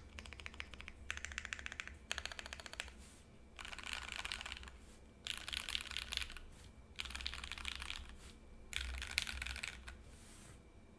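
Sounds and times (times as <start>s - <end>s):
mechanical keyboard typing: 0.0s - 3.0s, 3.6s - 8.1s, 8.7s - 10.0s.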